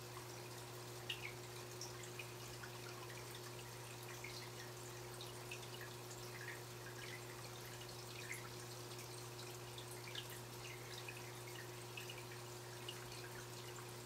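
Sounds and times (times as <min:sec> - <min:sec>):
water drips and plinks: 0:00.0 - 0:14.0.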